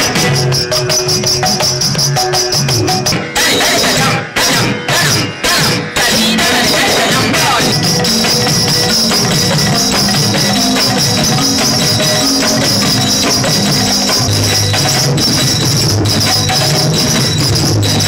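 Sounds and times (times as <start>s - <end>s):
instrumental music: 0.0s - 18.0s
percussion with tambourine jingles: 0.0s - 18.0s.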